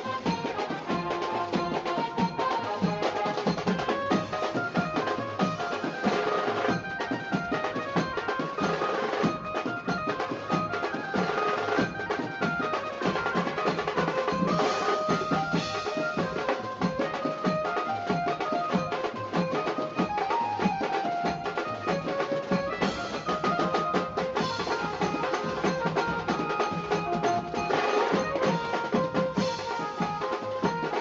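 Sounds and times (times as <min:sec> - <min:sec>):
music with driving drum beat: 0:00.0 - 0:31.0.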